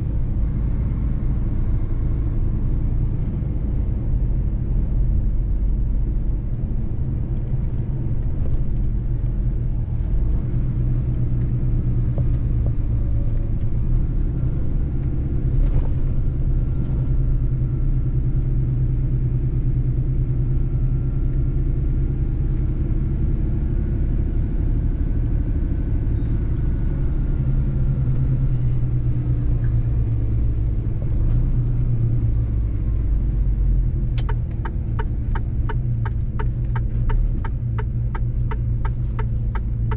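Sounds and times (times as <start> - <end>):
truck engine and rolling rumble: 0.0 - 39.9.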